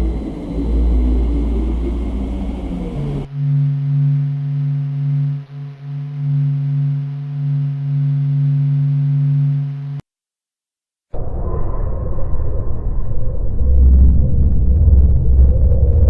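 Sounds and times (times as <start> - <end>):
deep noisy rumble: 0.0 - 10.0, 11.2 - 16.0
low humming drone: 0.0 - 10.0, 11.2 - 16.0.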